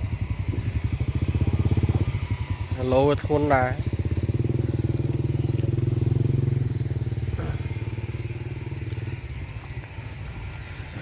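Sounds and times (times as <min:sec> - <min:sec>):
diesel engine pulsing: 0:00.0 - 0:11.0.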